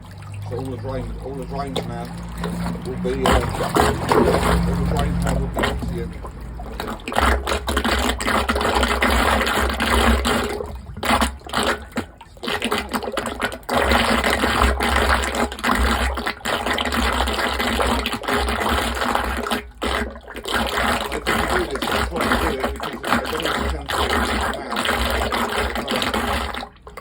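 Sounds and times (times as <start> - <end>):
water rushing down drain: 0.0 - 27.0.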